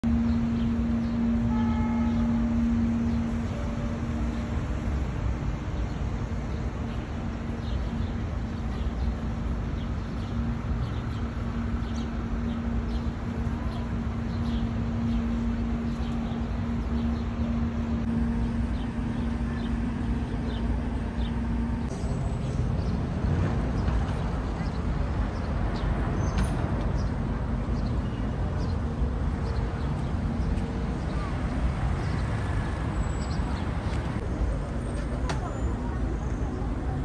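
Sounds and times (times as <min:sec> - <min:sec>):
constant droning hum: 0:00.0 - 0:37.0
low traffic rumble: 0:00.0 - 0:37.0.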